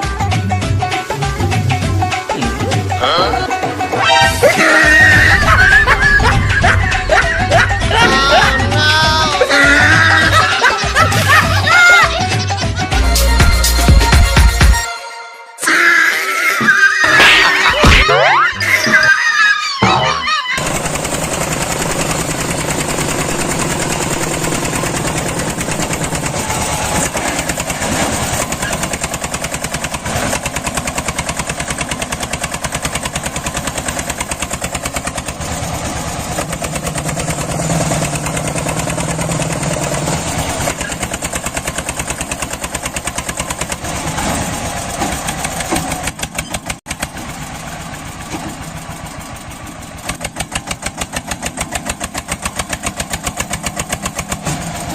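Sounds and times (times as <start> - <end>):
tractor engine running: 0.0 - 14.8, 20.6 - 54.9.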